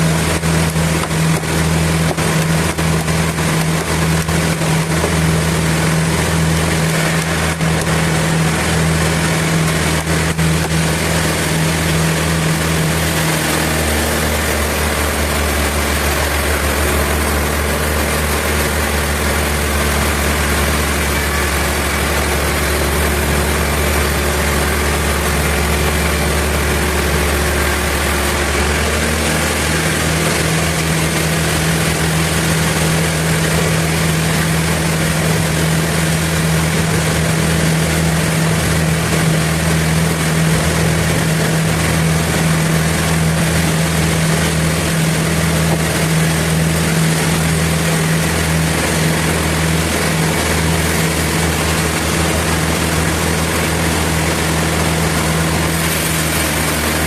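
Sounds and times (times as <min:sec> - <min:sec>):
sawmill machinery drone: 0:00.0 - 0:57.0
strong machine hum: 0:00.0 - 0:57.0.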